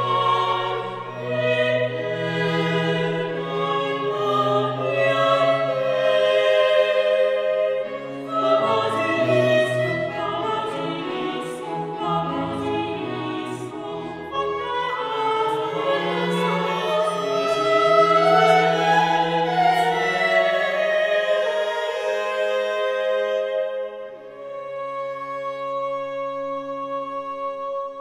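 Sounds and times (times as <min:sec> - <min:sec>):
orchestral accompaniment: 0:00.0 - 0:27.4
operatic singing: 0:00.0 - 0:28.0.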